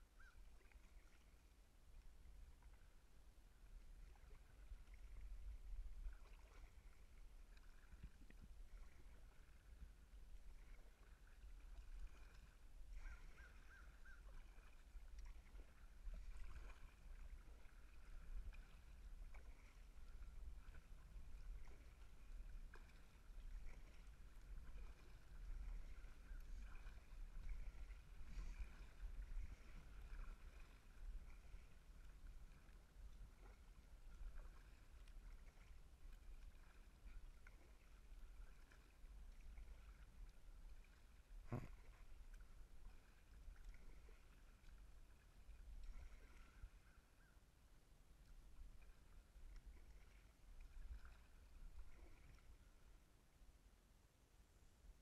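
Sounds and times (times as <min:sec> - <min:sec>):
muffled water rumble against hull: 0:00.0 - 0:53.6.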